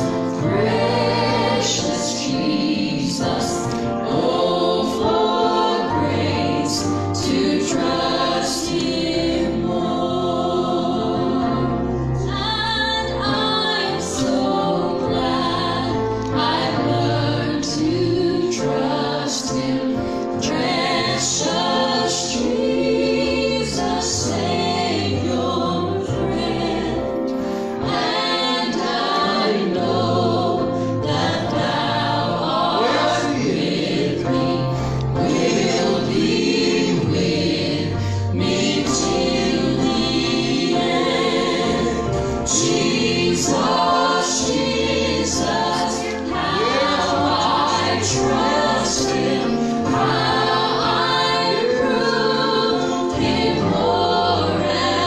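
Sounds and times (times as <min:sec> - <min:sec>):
gospel group singing in harmony: 0:00.0 - 0:55.0.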